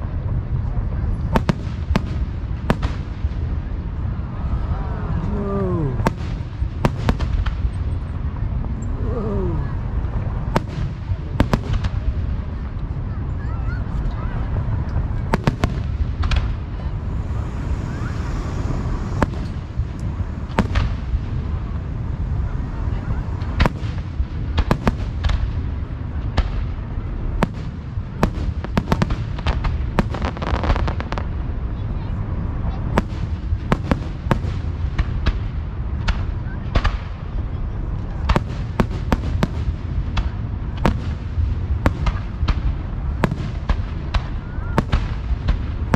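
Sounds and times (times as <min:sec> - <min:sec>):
fireworks cracking: 0:00.0 - 0:04.4, 0:05.0 - 0:45.9
low rumble of booms: 0:00.0 - 0:45.9.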